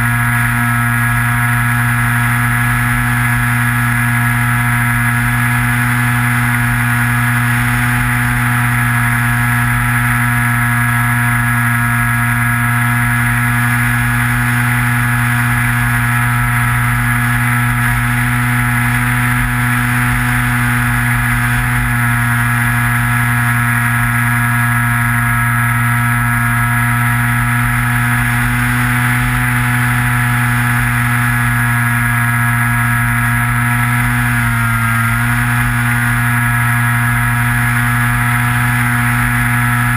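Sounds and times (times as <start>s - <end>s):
model plane propeller drone: 0.0s - 39.9s.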